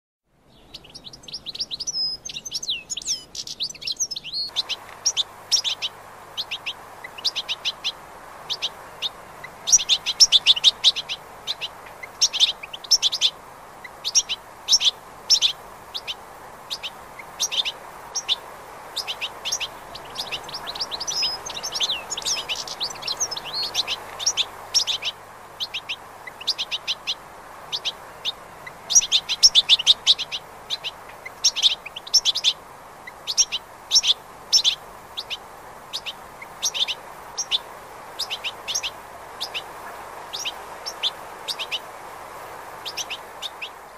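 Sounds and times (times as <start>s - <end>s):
bird twittering song: 0.5s - 42.0s, 42.7s - 43.9s.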